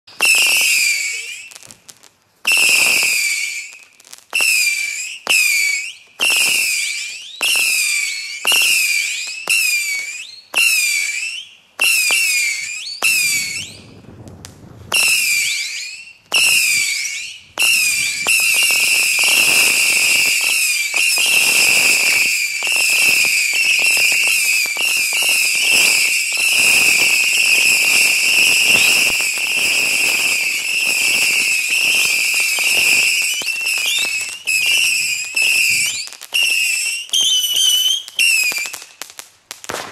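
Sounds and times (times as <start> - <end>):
whistling firework shots: 0.1 - 39.9.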